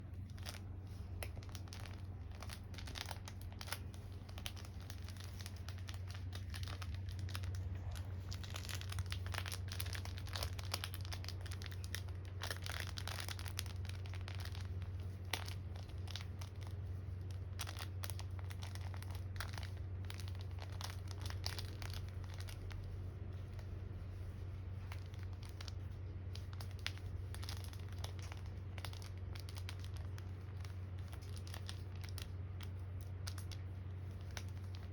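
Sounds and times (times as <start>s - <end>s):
dog chewing crinkly toy: 0.0s - 34.9s
steady low hum: 0.0s - 34.9s.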